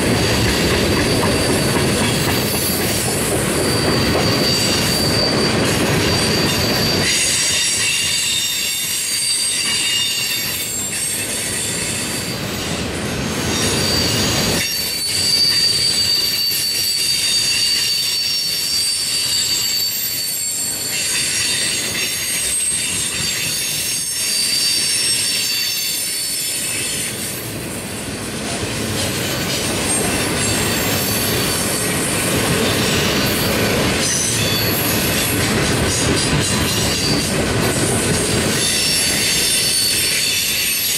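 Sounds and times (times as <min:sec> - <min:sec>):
train cars rumbling on rails: 0:00.0 - 0:40.9
train wheels squealing: 0:00.0 - 0:40.9.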